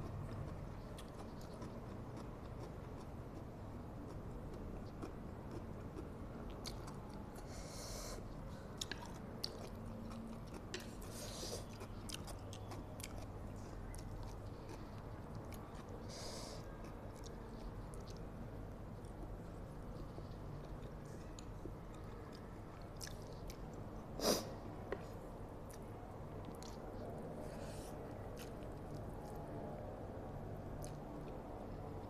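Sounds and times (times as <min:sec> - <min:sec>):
chewing and wet mouth sounds: 0:00.0 - 0:24.0, 0:24.9 - 0:32.0.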